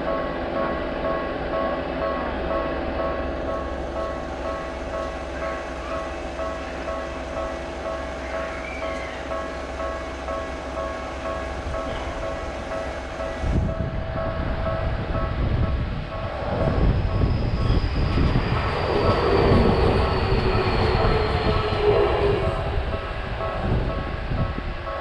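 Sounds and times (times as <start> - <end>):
passing train rumble: 0.0 - 25.0
railway crossing alarm ringing: 0.0 - 25.0.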